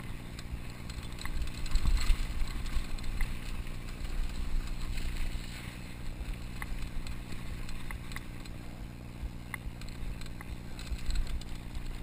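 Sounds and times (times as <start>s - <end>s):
bike rattling ticks: 0.0s - 12.0s
bike tyres rumbling on dirt: 0.0s - 12.0s.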